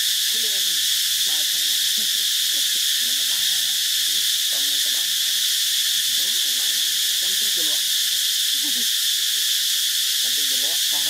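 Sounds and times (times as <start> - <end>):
faint wavering calls: 0.0 - 11.0
high insect chorus: 0.0 - 11.0.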